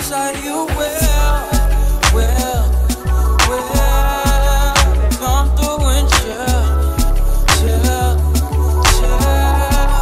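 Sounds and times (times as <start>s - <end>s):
person singing: 0.0s - 10.0s
r and b song: 0.0s - 10.0s
deep bass notes: 1.0s - 10.0s.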